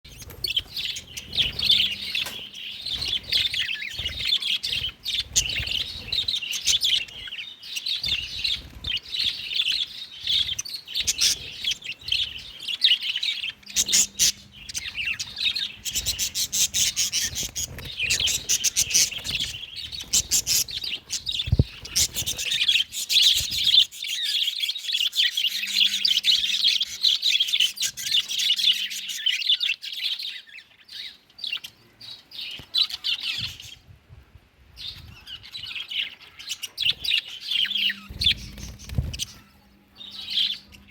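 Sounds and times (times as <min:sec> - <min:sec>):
budgerigars chirping and chattering: 0:00.1 - 0:33.9, 0:34.8 - 0:40.9.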